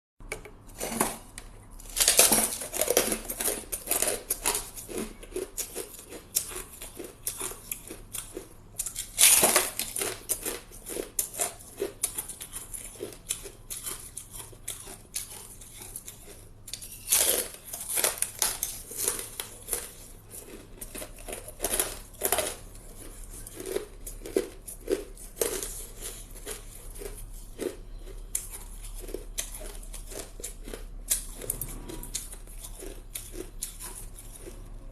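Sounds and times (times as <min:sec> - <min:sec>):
person chewing hard ice: 0:00.2 - 0:34.9.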